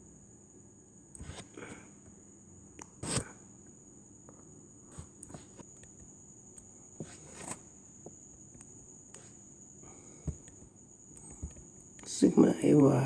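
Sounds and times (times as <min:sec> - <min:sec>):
high-pitched electrical whine: 0:00.0 - 0:13.0.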